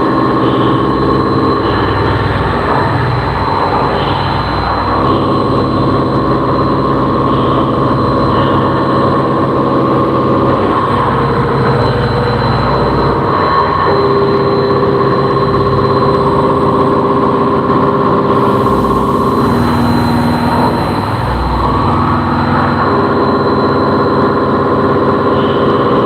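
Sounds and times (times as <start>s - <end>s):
machining centre humming: 0.0s - 26.0s.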